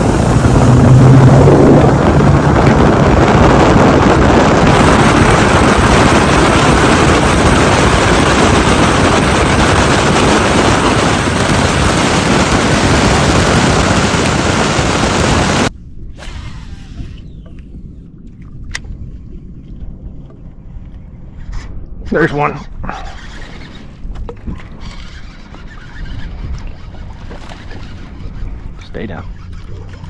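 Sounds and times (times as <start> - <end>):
outboard motor: 0.0 - 19.0, 19.6 - 30.0
wind rushing on microphone: 0.0 - 30.0.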